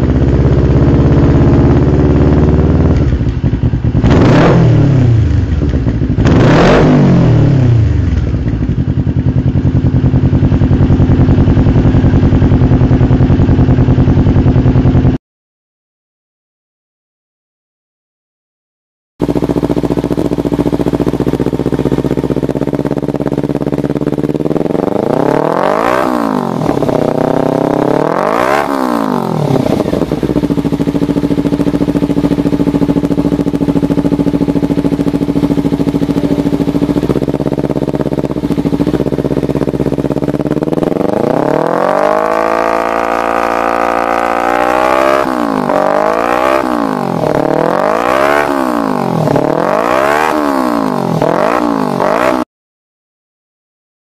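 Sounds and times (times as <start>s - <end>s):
motorcycle engine revving: 0.0s - 15.2s, 19.2s - 52.5s.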